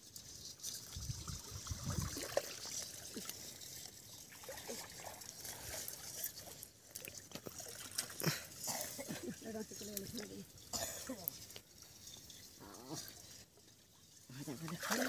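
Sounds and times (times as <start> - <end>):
shallow water trickling and sloshing: 0.0 - 15.0
small water splashes: 0.0 - 15.0.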